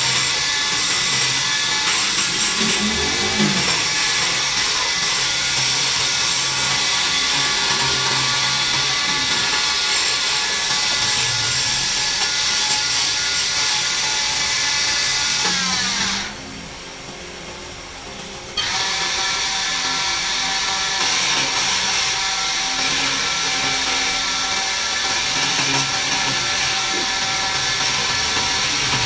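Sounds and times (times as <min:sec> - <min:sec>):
turning tool cutting hiss: 0:00.0 - 0:16.4, 0:18.5 - 0:29.0
wood lathe whirring: 0:00.0 - 0:18.0, 0:18.6 - 0:29.0.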